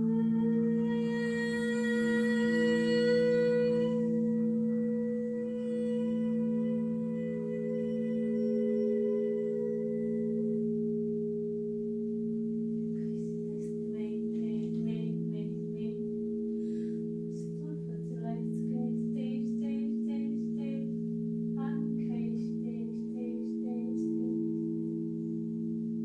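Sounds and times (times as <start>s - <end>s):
singing bowls ringing: 0.0s - 26.0s.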